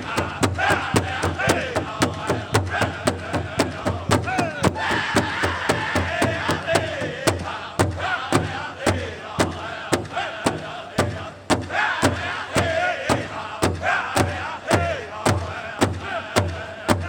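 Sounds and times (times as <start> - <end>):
big drum beating: 0.0 - 17.0
group singing high: 0.0 - 17.0.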